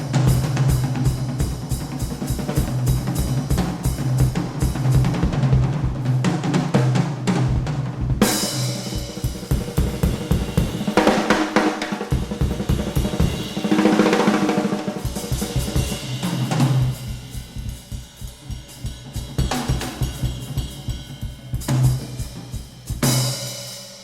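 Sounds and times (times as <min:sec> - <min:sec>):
jazz drum kit playing: 0:00.0 - 0:24.0.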